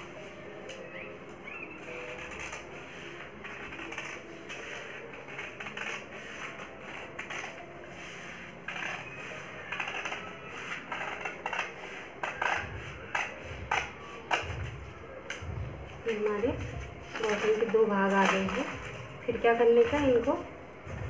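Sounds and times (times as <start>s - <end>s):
scissors snipping paper: 1.5s - 7.9s, 8.6s - 15.5s, 16.1s - 20.3s.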